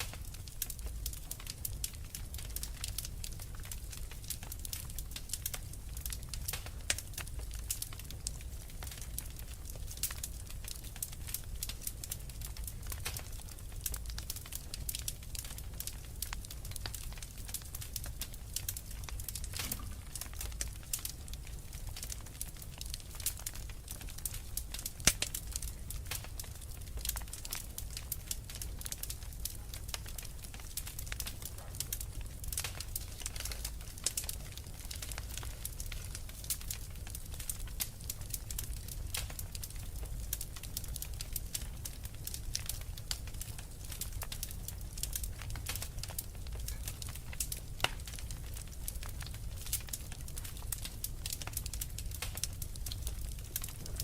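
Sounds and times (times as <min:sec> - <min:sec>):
low rumble of blizzard wind: 0:00.0 - 0:54.0
wood fire crackling and popping: 0:00.0 - 0:54.0.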